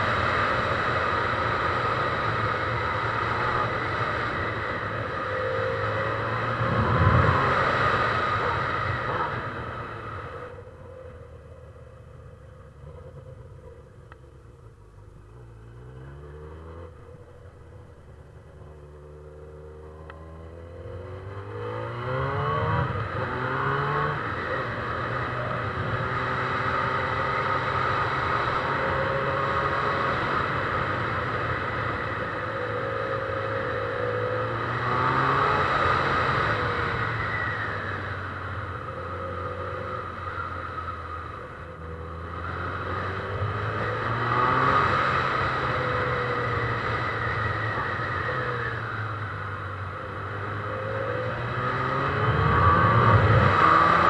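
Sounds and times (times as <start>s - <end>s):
motorcycle engine revving: 0.0s - 14.0s, 14.6s - 54.0s.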